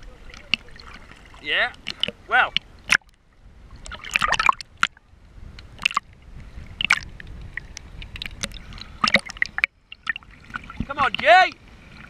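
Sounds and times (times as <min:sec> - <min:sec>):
sea water sloshing and splashing: 0:00.0 - 0:12.0
underwater gurgling: 0:00.0 - 0:12.0.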